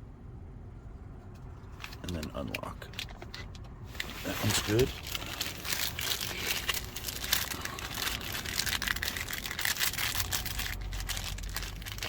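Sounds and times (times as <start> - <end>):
packaging crinkling and rustling: 1.8 - 12.0.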